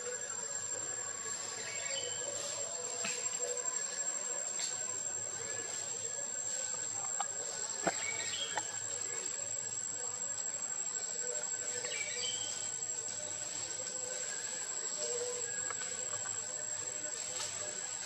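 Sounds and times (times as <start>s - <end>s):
forest hiss: 0.0s - 18.0s
insects droning: 0.0s - 18.0s.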